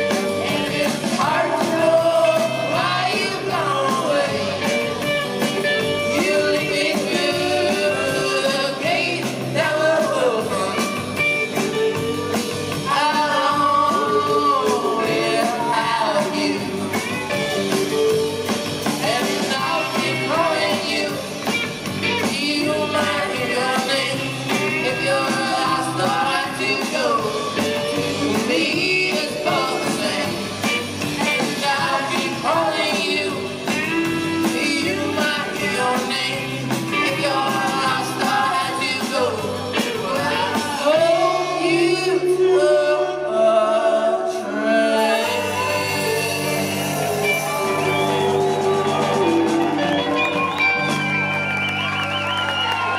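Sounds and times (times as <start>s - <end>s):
electric guitars: 0.0s - 42.5s, 44.4s - 52.9s
person singing lead vocal: 0.0s - 50.1s
drums: 0.0s - 52.9s.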